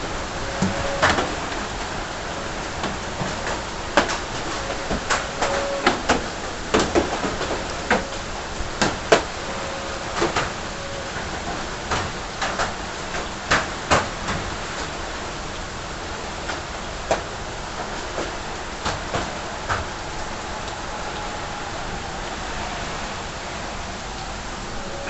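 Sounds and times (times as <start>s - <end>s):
hiss of falling rain: 0.0s - 25.0s.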